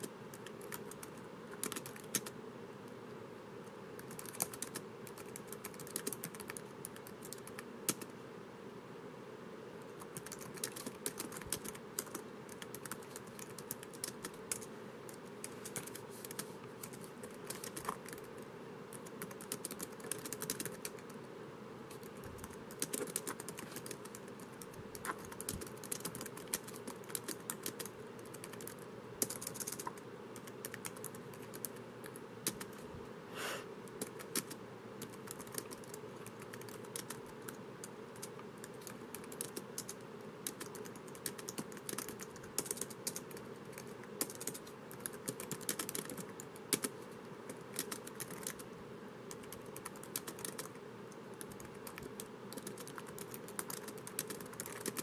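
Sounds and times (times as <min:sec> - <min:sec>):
typing on laptop keyboard: 0:00.0 - 0:02.4, 0:04.0 - 0:08.1, 0:10.0 - 0:21.2, 0:21.9 - 0:32.8, 0:33.9 - 0:48.7, 0:49.3 - 0:55.0
low background hum: 0:00.0 - 0:55.0.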